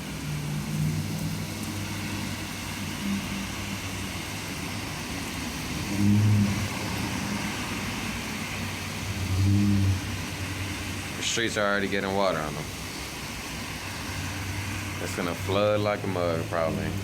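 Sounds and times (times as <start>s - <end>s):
steady hiss: 0.0s - 17.0s
vehicle engine humming: 0.0s - 17.0s.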